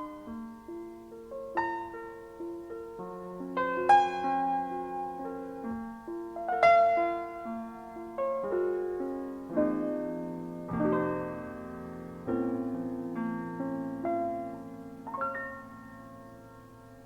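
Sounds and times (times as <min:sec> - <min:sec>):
piano-like keyboard chords: 0:00.0 - 0:17.0.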